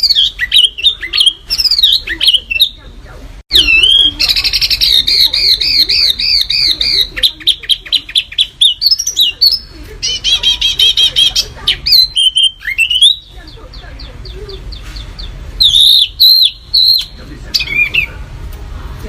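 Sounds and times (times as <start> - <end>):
songbird singing rapid song: 0.0 - 2.9, 3.5 - 18.2.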